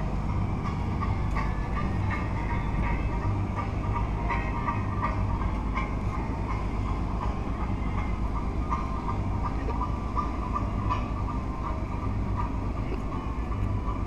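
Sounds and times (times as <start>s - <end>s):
ship engines rumbling: 0.0s - 14.0s.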